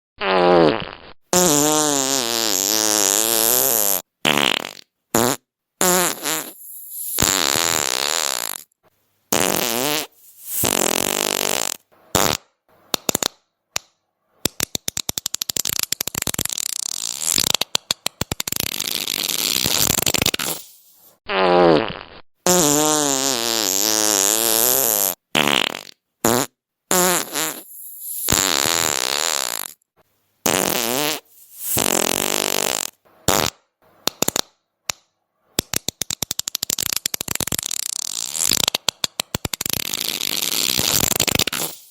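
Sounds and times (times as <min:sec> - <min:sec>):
fart sounds: 0:00.2 - 0:13.5, 0:14.4 - 0:29.8, 0:30.4 - 0:34.5, 0:35.6 - 0:41.9.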